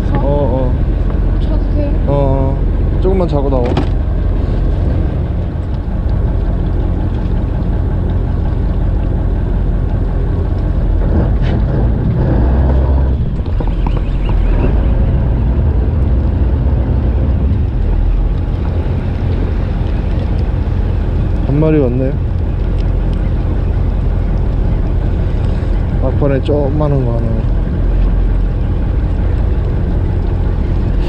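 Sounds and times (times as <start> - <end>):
boat low rumble: 0.0 - 31.0.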